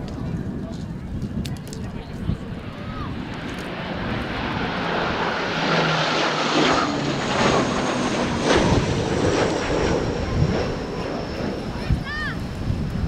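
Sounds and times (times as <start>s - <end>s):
turboprop plane flying overhead: 0.0s - 13.0s.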